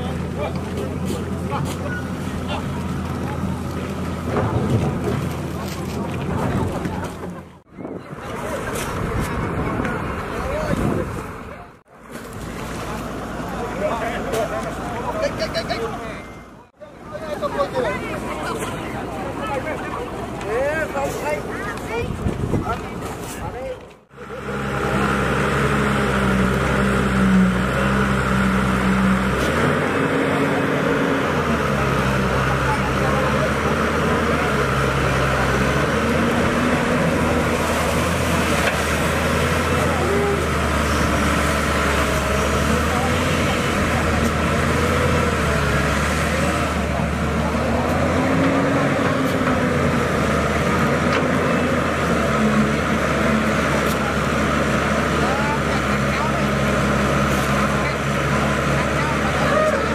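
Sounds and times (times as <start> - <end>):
excavator diesel engine under load: 0.0 - 23.2, 23.8 - 59.9.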